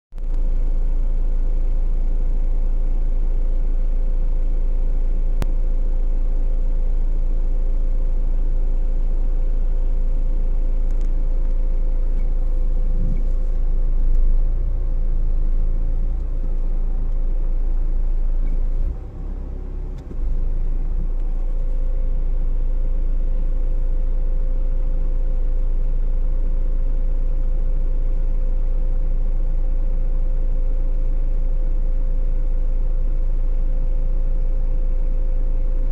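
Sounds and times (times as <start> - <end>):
car engine idling: 0.2 - 35.9.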